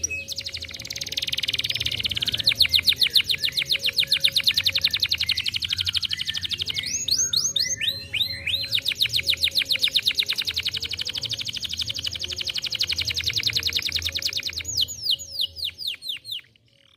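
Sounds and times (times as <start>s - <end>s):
canary singing fast trill: 0.0s - 16.9s.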